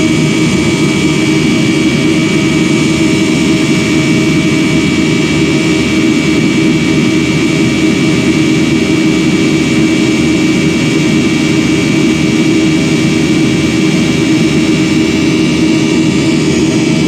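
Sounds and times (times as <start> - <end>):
high whine: 0.0 - 17.0
jet engine drone: 0.0 - 17.0.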